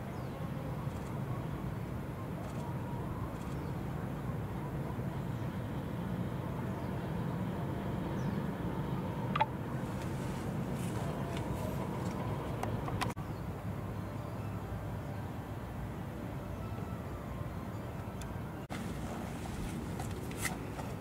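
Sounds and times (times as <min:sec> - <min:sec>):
low engine-like rumble: 0:00.2 - 0:21.0.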